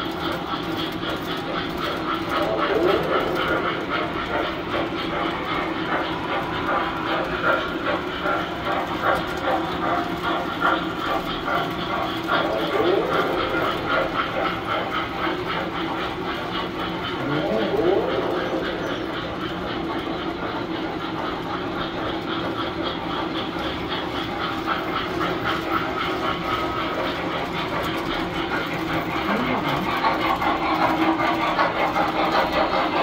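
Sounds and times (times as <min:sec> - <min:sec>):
constant hum: 0:00.0 - 0:33.0
toy train motors whirring: 0:00.0 - 0:33.0.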